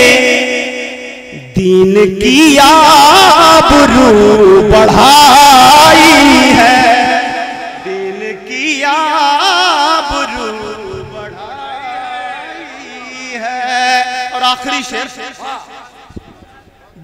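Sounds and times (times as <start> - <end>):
man singing ornamented melody: 0.0 - 16.6.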